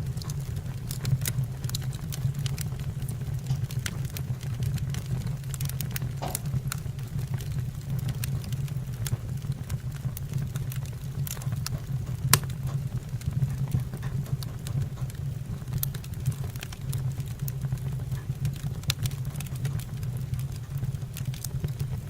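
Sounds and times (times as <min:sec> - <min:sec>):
steady low hum: 0:00.0 - 0:22.0
wood fire crackling: 0:00.0 - 0:22.0
sharp pops and snaps: 0:00.1 - 0:22.0.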